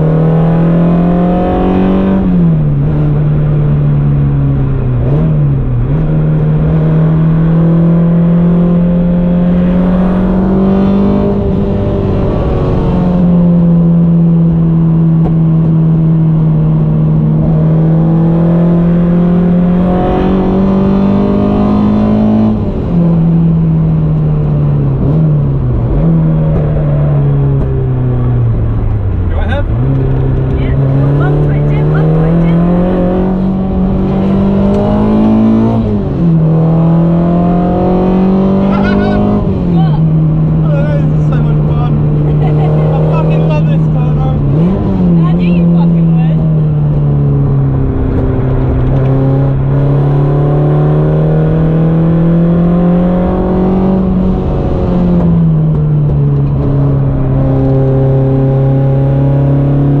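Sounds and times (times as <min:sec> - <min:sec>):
car engine accelerating: 0:00.0 - 1:00.0
low road rumble: 0:00.0 - 1:00.0.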